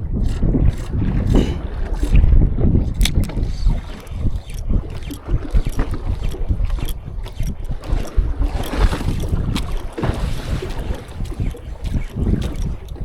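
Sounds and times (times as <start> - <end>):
water splashing against hull: 0.0 - 13.0
wind buffeting microphone: 0.0 - 13.0.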